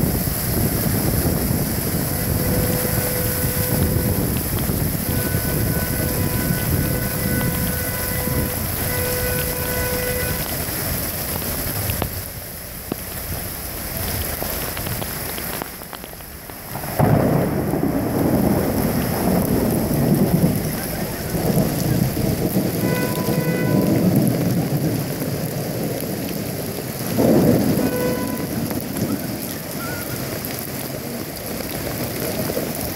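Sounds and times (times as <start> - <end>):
thunder rumbling: 0.0 - 32.9
torrential rain hissing: 0.0 - 32.9.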